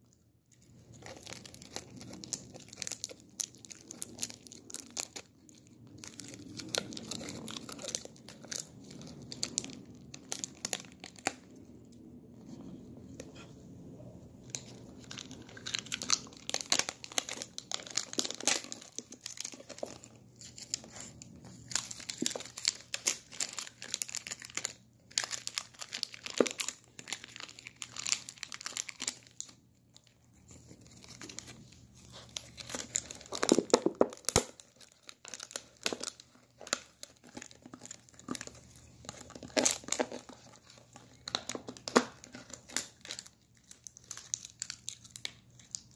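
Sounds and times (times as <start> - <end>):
thin plastic crinkling and tearing: 0.0 - 13.5, 14.4 - 45.9.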